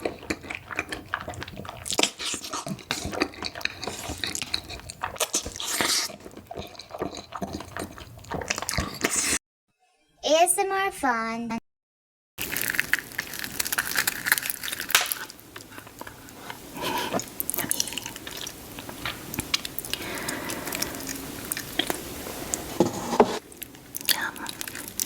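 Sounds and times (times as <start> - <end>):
person chewing food: 0.0 - 9.4, 12.4 - 25.0.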